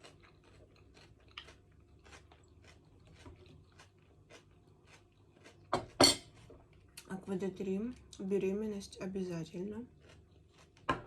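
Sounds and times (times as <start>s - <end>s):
faint chewing: 0.0s - 8.3s, 9.4s - 11.0s.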